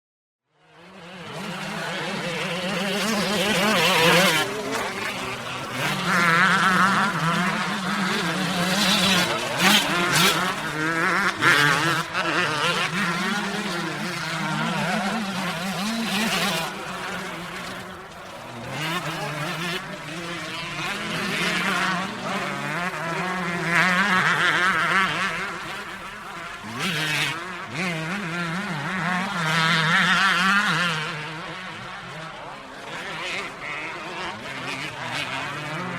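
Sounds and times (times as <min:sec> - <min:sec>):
motorcycle engine revving: 0:00.6 - 0:35.9.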